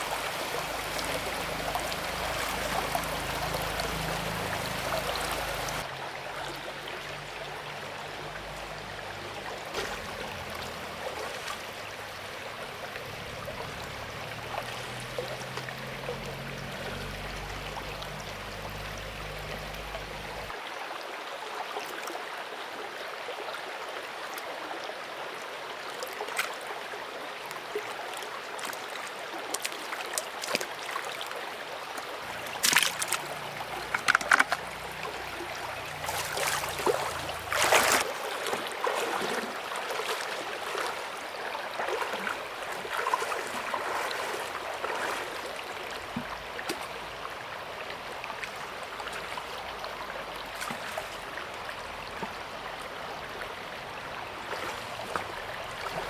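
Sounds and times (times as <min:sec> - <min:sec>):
water splashes: 0:00.0 - 0:07.5, 0:09.7 - 0:20.6, 0:25.8 - 0:56.0
river water flowing: 0:00.0 - 0:56.0.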